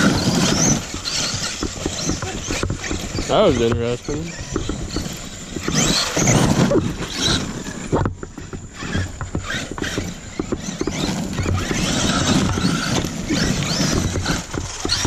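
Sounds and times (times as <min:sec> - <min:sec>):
electric motors whining: 0:00.0 - 0:15.0
tyres crunching on gravel: 0:00.0 - 0:15.0.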